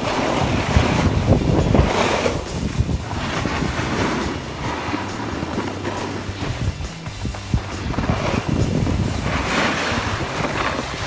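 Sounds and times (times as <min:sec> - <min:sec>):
skis scraping packed snow: 0:00.0 - 0:11.0
wind buffeting microphone: 0:00.0 - 0:11.0.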